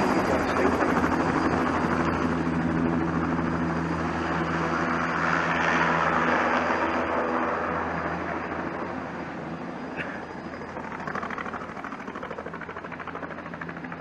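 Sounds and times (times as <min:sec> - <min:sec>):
helicopter turbine and rotor drone: 0:00.0 - 0:14.0.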